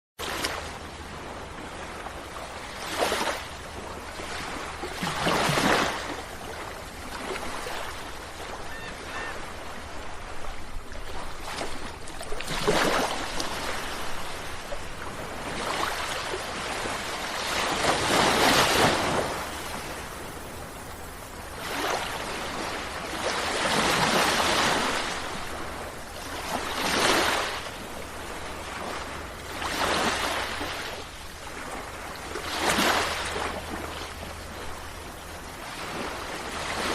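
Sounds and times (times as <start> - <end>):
sea waves breaking: 0.2 - 36.9.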